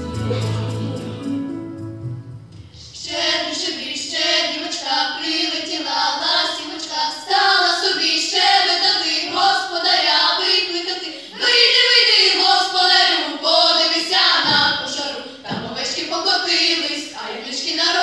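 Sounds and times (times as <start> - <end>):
girls' vocal ensemble singing: 2.8 - 18.0.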